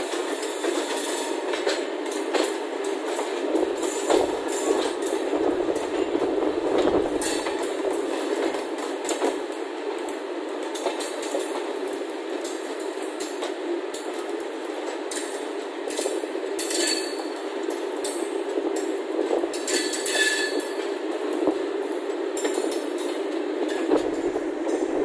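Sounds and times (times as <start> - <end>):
train wheels clattering on rails: 0.0 - 25.0.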